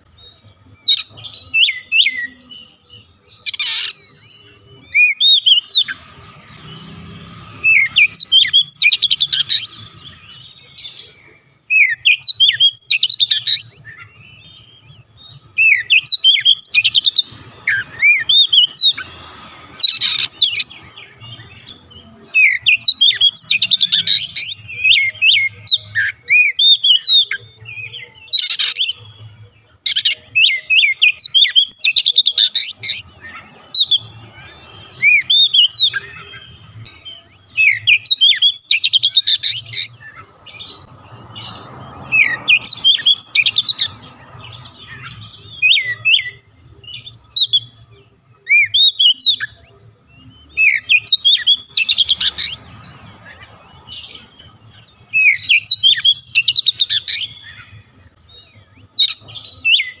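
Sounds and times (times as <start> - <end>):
bird singing whistled notes: 0.0 - 60.0.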